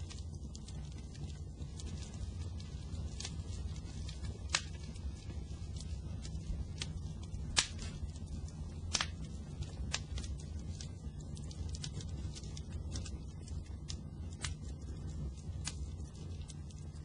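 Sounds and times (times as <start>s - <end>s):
fire crackling with sharp pops: 0.0s - 17.0s
low rumble of flames: 0.0s - 17.0s.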